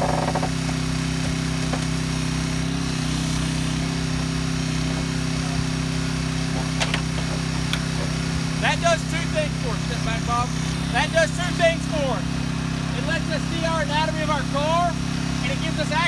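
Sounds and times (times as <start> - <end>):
power unit engine running: 0.0 - 16.0.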